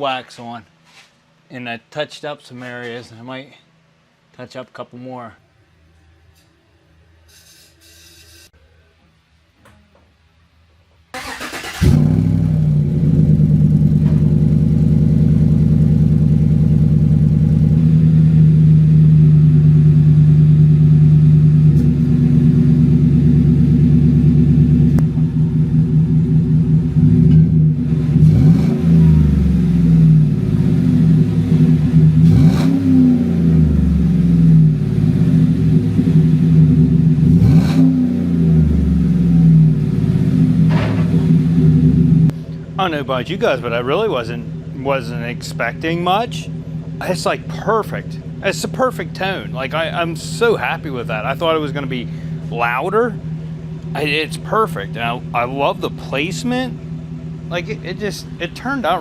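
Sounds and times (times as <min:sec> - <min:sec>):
truck engine idling and revving: 0:11.2 - 0:59.0.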